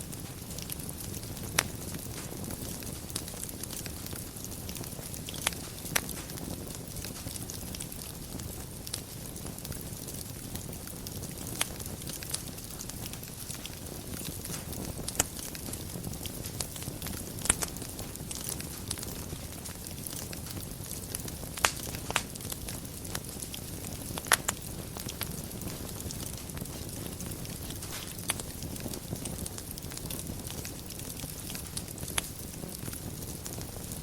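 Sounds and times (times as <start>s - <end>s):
wood fire rumbling and crackling: 0.0s - 34.0s.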